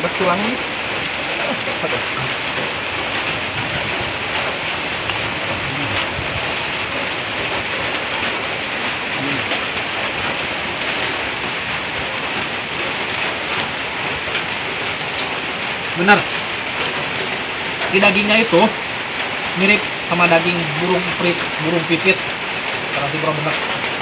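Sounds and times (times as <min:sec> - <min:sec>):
rain on a metal roof: 0:00.0 - 0:24.0.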